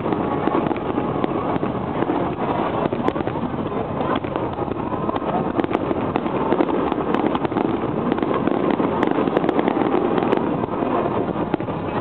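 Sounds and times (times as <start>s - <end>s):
fireworks crackling and popping: 0.0s - 12.0s
steady noisy background: 0.0s - 12.0s.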